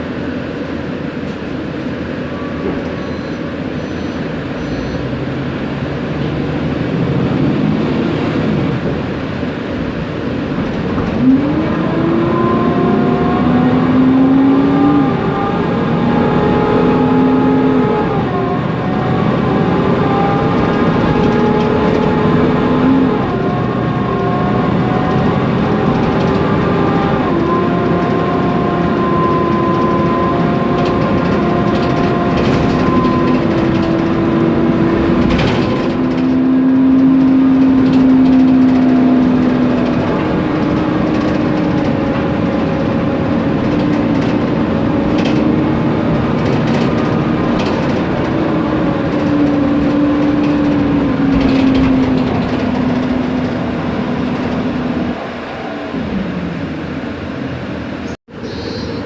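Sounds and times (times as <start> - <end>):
cooling fan: 0.0 - 58.1
bus engine whining: 0.0 - 59.0.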